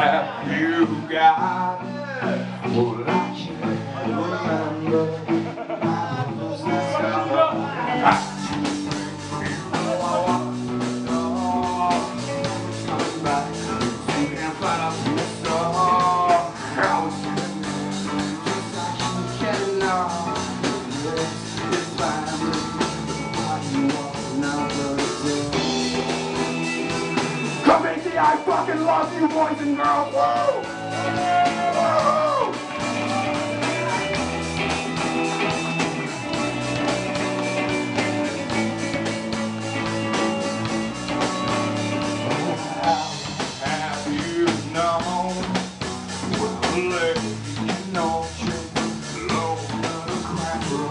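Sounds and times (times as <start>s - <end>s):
punk rock band playing live: 0.0s - 50.9s.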